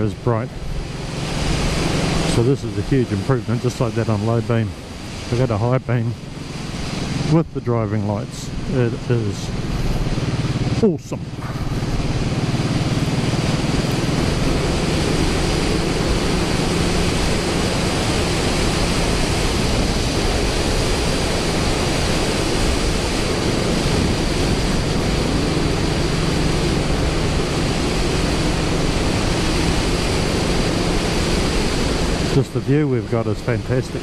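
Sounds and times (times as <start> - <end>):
motorcycle engine humming: 0.0 - 34.0
wind rush over microphone: 0.0 - 34.0.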